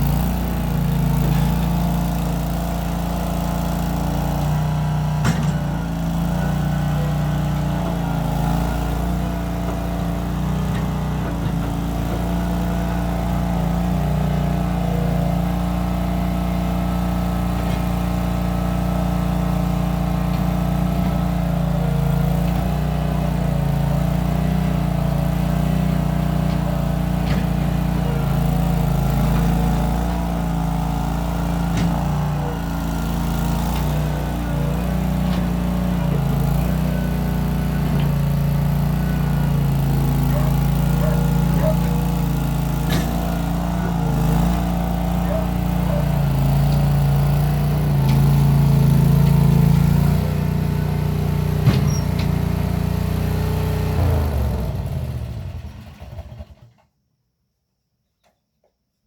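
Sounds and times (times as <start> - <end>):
skid steer engine running: 0.0 - 56.8.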